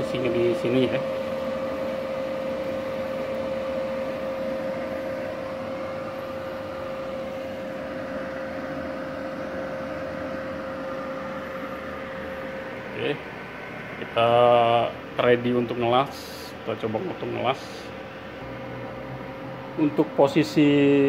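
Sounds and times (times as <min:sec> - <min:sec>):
welder cooling fan humming: 0:00.0 - 0:21.0.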